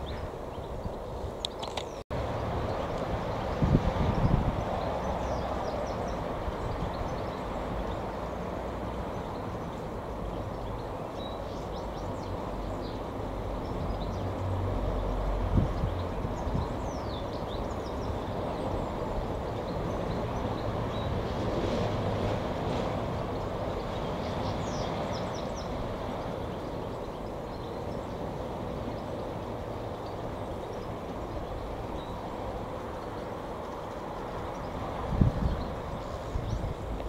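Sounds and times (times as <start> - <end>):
small birds chirping: 0.0 - 21.5, 23.0 - 37.0
distant jet engine rumble: 0.0 - 37.0.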